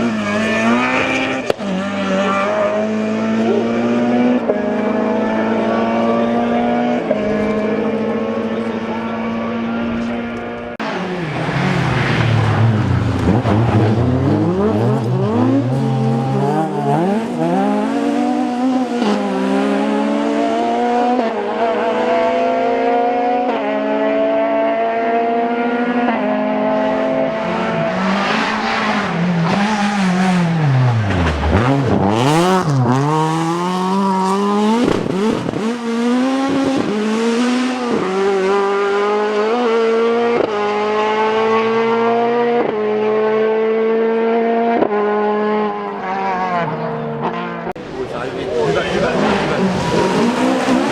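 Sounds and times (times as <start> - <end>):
rally car engine revving: 0.0 - 50.9.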